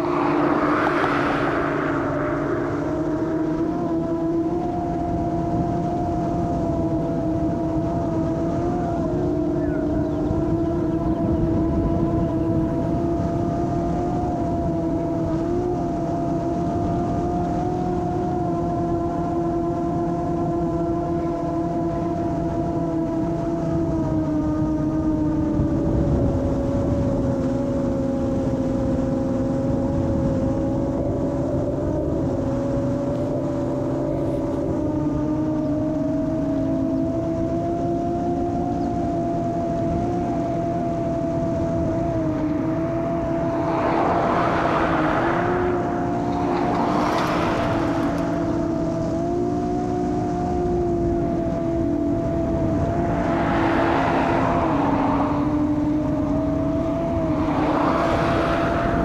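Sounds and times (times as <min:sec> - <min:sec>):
drone propellers whining: 0:00.0 - 0:59.0.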